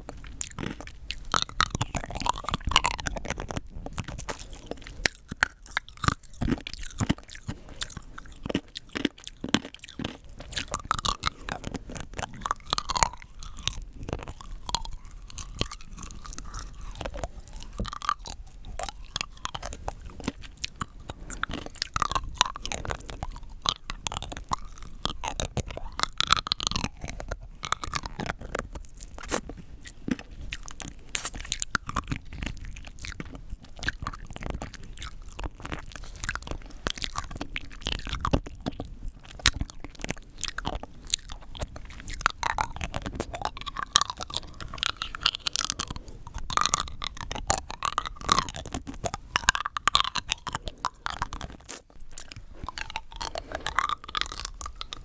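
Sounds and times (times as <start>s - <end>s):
hard candy crunching: 0.0s - 55.0s.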